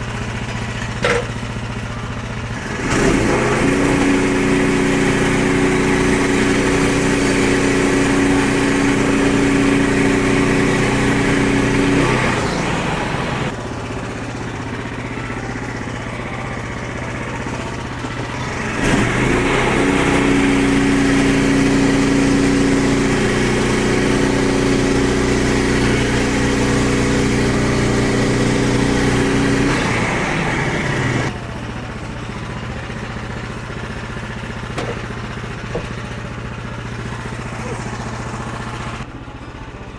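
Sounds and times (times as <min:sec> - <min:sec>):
sawmill engine revving and idling: 0:00.0 - 0:39.9.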